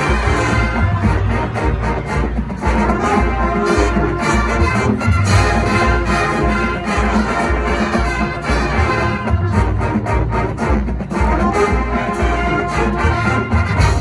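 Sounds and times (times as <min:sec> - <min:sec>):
marching band brass: 0:00.0 - 0:14.0.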